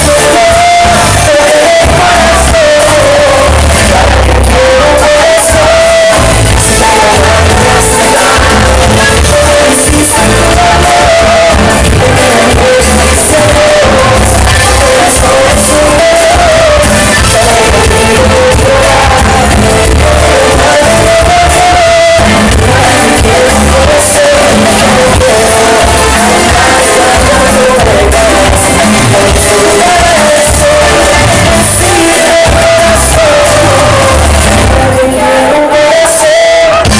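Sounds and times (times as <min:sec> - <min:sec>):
bass beat: 0:00.0 - 0:36.0, 0:36.6 - 0:36.9
live band music: 0:00.0 - 0:36.9
person singing: 0:00.0 - 0:36.9.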